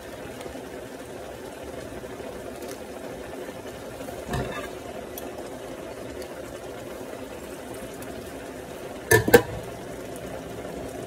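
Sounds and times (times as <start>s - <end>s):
water boiling and bubbling: 0.0s - 11.0s.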